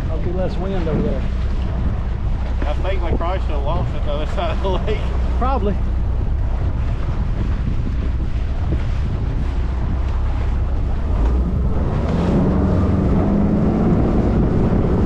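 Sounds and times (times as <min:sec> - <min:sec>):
outboard motor hum: 0:00.0 - 0:15.0
wind buffeting microphone: 0:00.0 - 0:15.0.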